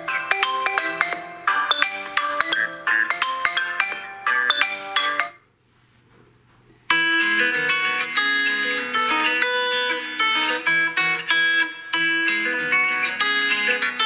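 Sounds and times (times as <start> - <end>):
bright ringtone melody: 0.0 - 5.5, 6.9 - 14.0
plucked guitar-like ringtone: 0.0 - 5.5, 6.9 - 14.0.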